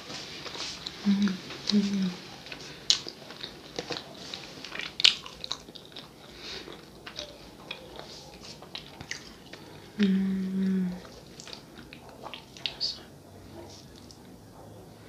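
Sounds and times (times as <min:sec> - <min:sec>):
mouth chewing with clicks and smacks: 0:00.2 - 0:14.8.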